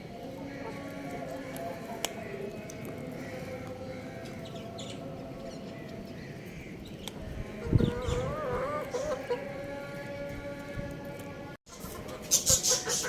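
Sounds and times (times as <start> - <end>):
chicks chirping: 0.3 - 10.2, 11.7 - 13.0.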